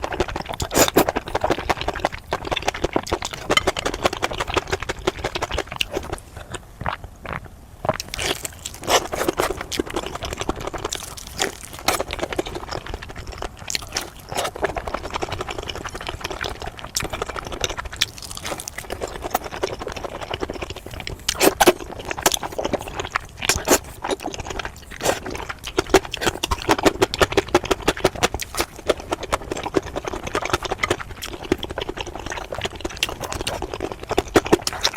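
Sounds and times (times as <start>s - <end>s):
person chewing: 0.0s - 34.9s.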